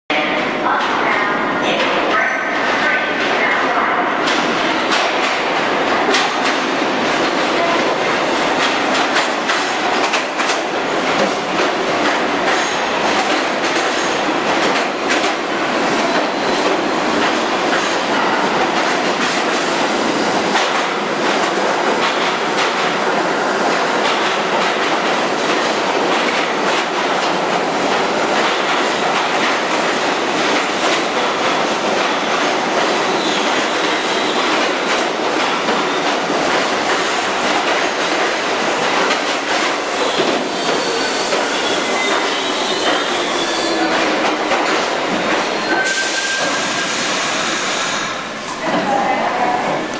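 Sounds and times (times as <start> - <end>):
subway train rolling: 0.1 - 49.9.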